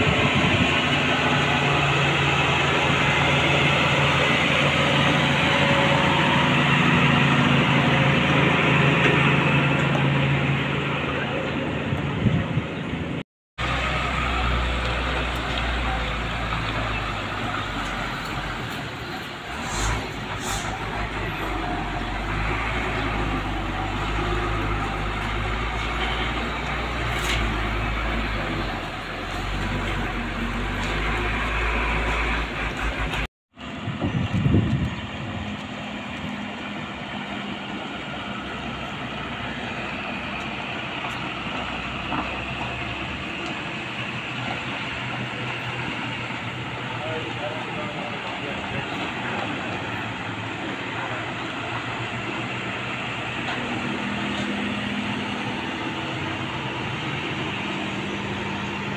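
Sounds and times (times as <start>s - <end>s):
diesel truck engine droning: 0.0s - 58.9s.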